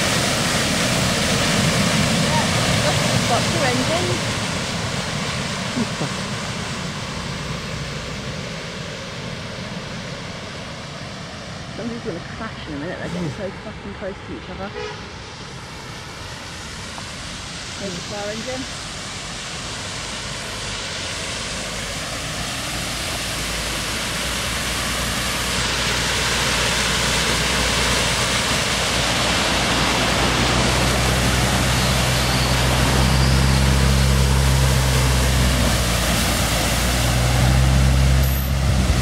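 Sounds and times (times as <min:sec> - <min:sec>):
fire engine humming: 0:00.0 - 0:39.0
vehicles ploughing through floodwater: 0:00.0 - 0:39.0.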